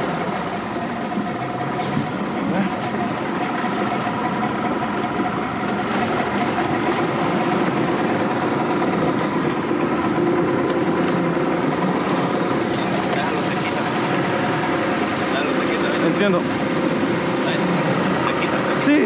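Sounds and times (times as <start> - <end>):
outboard motor running: 0.0 - 19.0
water rushing along hull: 0.0 - 19.0.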